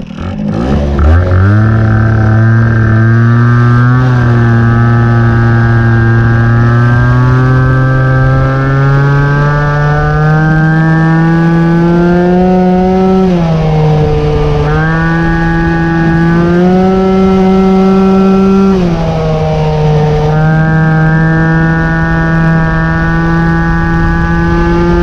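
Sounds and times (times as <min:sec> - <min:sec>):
moped engine buzzing: 0:00.0 - 0:25.0
wind noise on microphone: 0:00.0 - 0:25.0.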